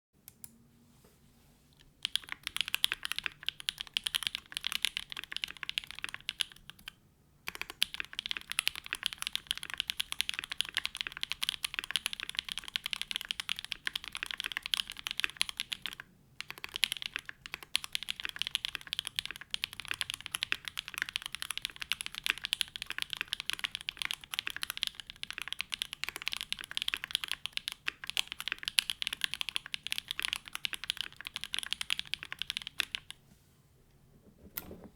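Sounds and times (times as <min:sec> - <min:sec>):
mechanical keyboard typing clacks: 0:02.0 - 0:06.9, 0:07.5 - 0:33.1.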